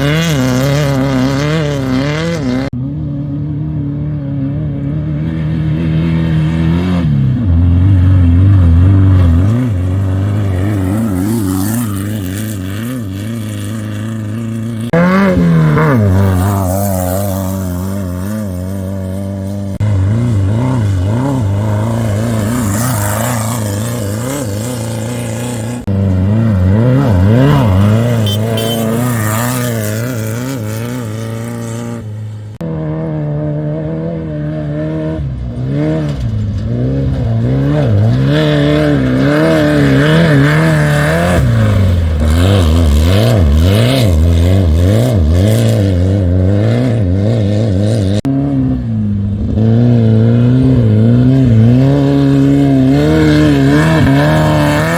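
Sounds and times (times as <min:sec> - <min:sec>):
race vehicle engines revving: 0:00.0 - 0:54.9.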